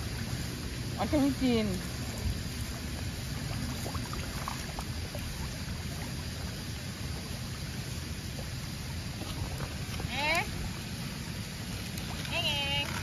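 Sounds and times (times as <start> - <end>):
water churning and splashing: 0.0 - 13.0.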